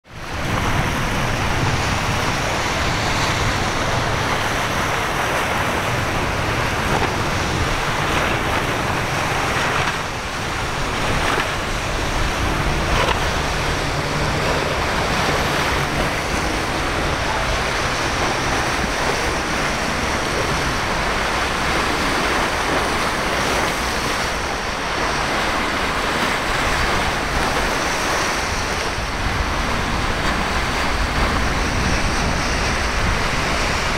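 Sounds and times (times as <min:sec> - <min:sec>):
outboard boat engines droning: 0:00.0 - 0:33.9
surf and churning water: 0:00.0 - 0:33.9
wind buffeting microphone: 0:00.0 - 0:33.9.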